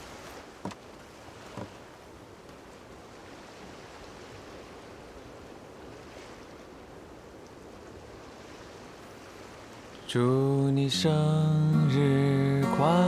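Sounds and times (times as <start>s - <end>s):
waves washing on shore: 0.0s - 13.0s.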